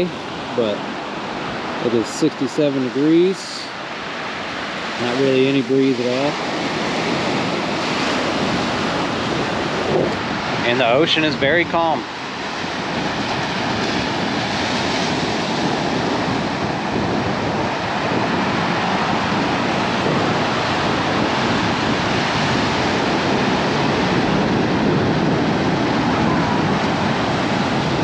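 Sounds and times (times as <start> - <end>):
surf washing up the beach: 0.0 - 28.0.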